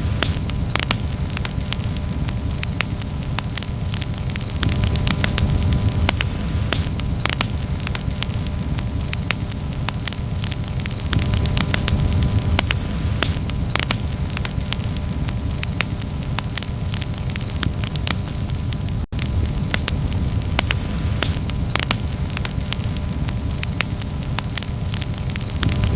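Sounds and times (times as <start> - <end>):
campfire crackles and pops: 0.0 - 25.9
flames low rumble: 0.0 - 25.9.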